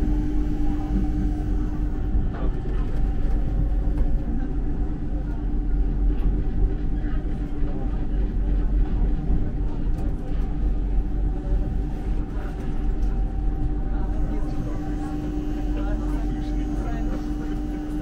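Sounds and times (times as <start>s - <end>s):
monorail running: 0.0s - 18.0s.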